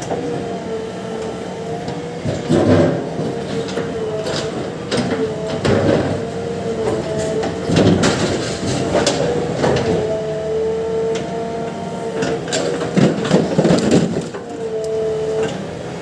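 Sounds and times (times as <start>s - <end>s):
excavator engine and hydraulics whine: 0.0s - 16.0s.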